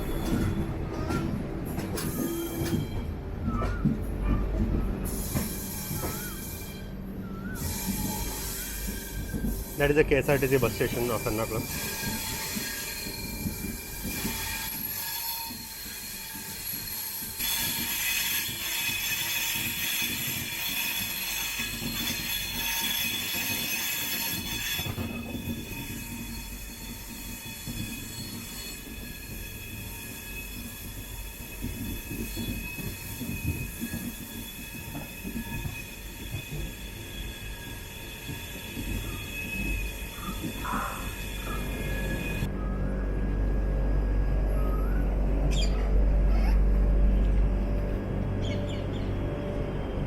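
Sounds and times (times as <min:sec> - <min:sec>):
train wheels squealing: 0:00.0 - 0:43.5, 0:44.3 - 0:46.6
train running gear rumble: 0:00.0 - 0:50.0.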